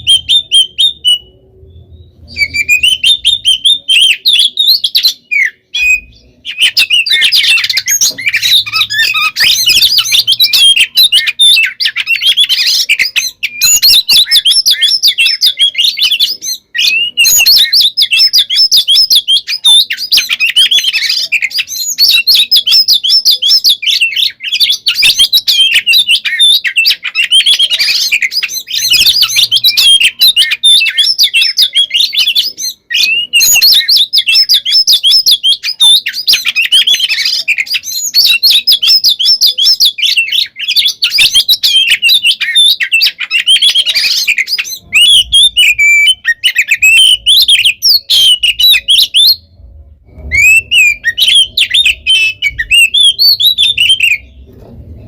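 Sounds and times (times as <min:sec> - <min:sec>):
bird singing rapid chirps and whistles: 0:00.0 - 0:55.0.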